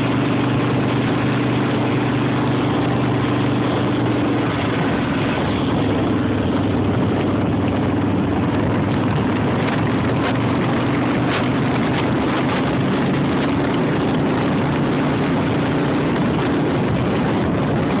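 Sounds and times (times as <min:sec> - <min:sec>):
car engine hum: 0:00.0 - 0:18.0
road and wind noise: 0:00.0 - 0:18.0.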